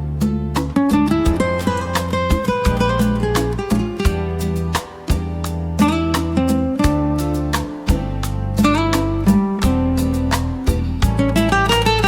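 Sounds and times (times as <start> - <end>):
low bass notes: 0.0 - 12.0
plucked acoustic guitar: 0.0 - 12.0.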